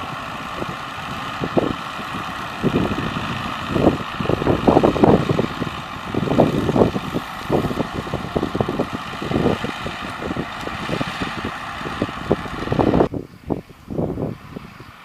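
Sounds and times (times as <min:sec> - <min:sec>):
tractor diesel engine running: 0:00.0 - 0:15.0
wind gusting on microphone: 0:00.0 - 0:15.0.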